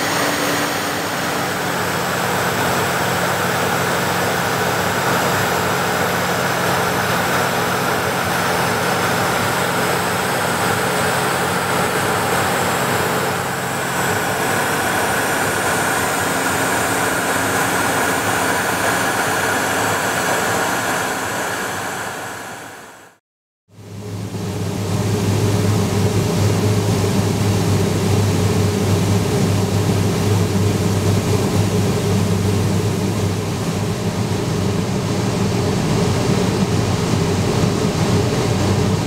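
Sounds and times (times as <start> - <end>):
jet engine hum: 0.0 - 23.2, 23.8 - 39.0
rush of airflow: 0.0 - 23.2, 23.8 - 39.0.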